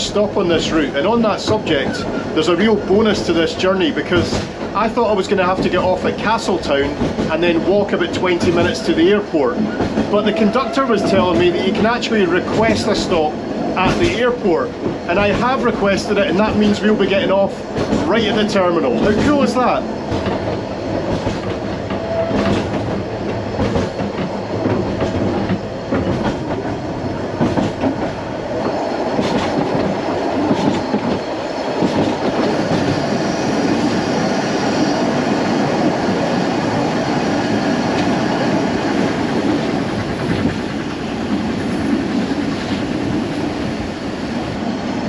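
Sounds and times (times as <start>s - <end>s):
wheels clicking over rail joints: 0.0s - 33.9s, 35.5s - 43.8s
train coaches rumbling: 0.0s - 45.0s.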